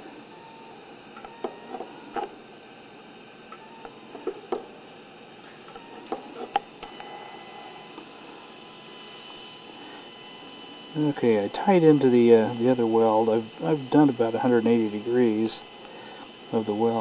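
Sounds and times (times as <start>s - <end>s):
welding arc buzzing: 0.0s - 17.0s.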